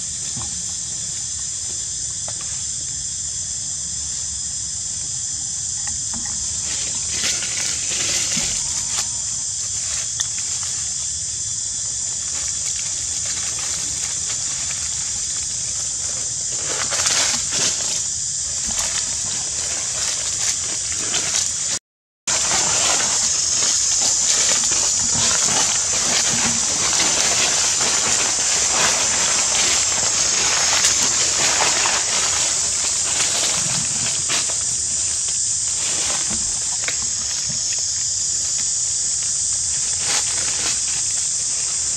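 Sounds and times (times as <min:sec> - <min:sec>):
steady high-pitched hiss: 0:00.0 - 0:41.9
dry leaves rustling: 0:05.7 - 0:41.9.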